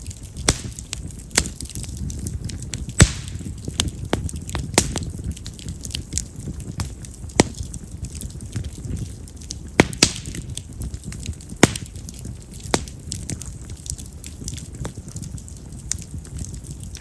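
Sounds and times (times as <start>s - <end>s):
campfire crackling and popping: 0.0s - 17.0s
flame rustling: 0.0s - 17.0s.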